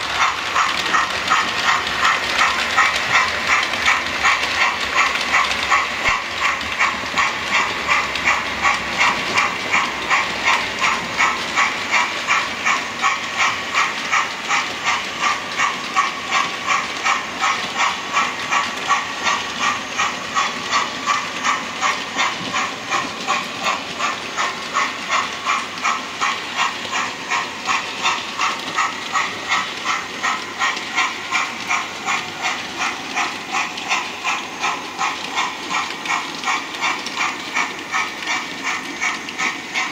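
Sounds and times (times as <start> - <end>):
fine clicking: 0.0 - 39.9
steam locomotive chuffing: 0.0 - 39.9.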